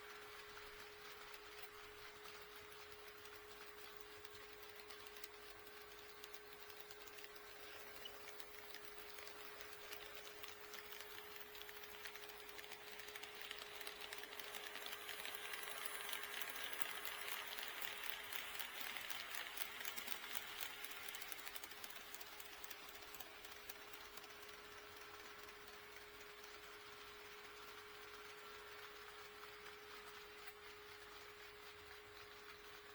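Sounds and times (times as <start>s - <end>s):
model train wheels clicking: 0.0s - 32.9s.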